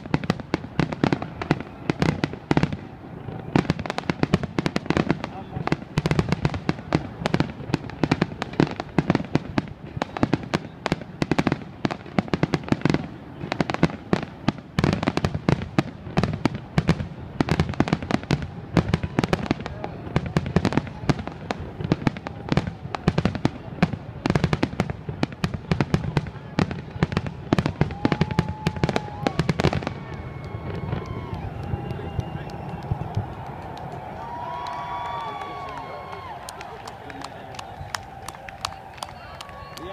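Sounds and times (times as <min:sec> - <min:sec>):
fireworks barrage of bangs: 0:00.0 - 0:35.1.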